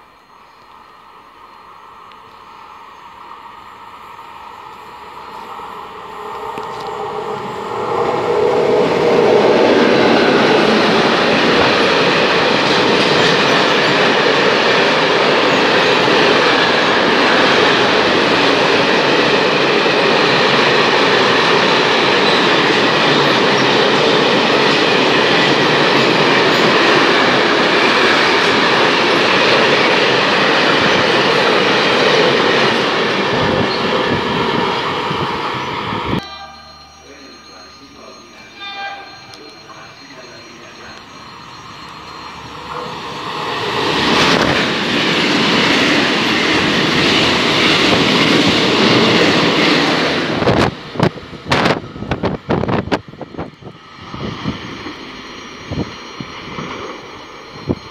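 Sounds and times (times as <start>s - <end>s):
freight train wheels rumbling on rails: 0.0s - 57.9s.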